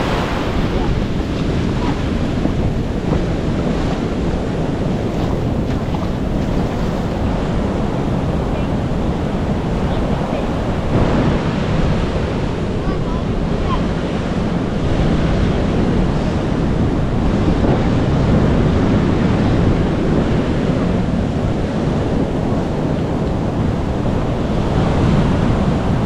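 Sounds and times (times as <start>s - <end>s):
ocean surf washing on beach: 0.0s - 26.0s
wind rumbling on microphone: 0.0s - 26.0s.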